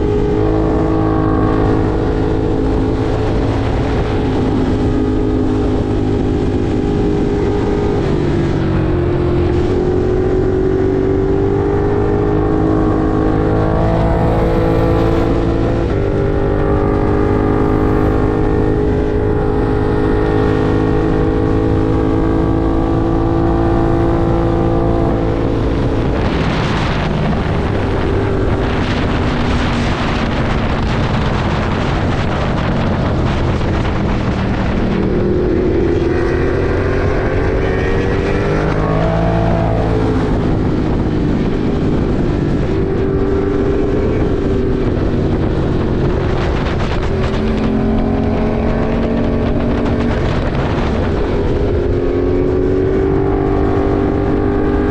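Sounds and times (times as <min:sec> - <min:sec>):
motorcycle engine revving: 0:00.0 - 0:54.9
wind rush on microphone: 0:00.0 - 0:54.9.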